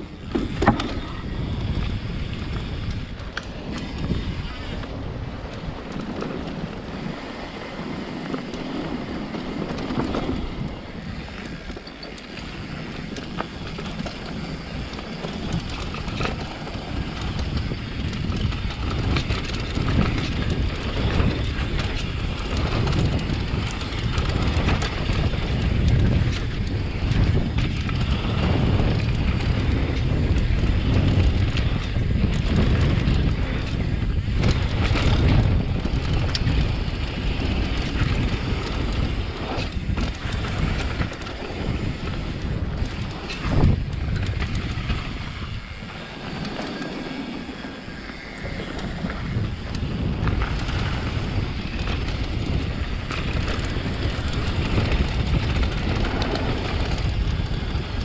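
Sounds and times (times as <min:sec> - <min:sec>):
bike rattling over bumps: 0:00.0 - 0:58.0
tyres rolling on dirt: 0:00.0 - 0:58.0
wind buffeting microphone: 0:00.0 - 0:58.0.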